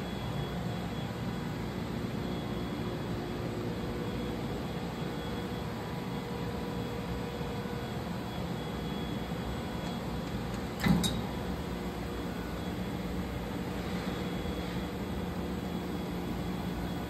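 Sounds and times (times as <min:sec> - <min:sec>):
workshop machinery hum: 0:00.0 - 0:17.0.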